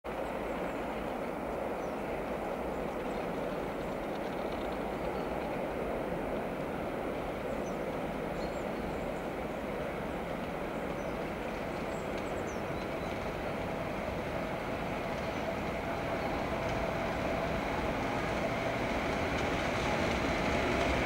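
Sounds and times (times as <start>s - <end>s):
distant freight train approaching: 0.1s - 21.0s.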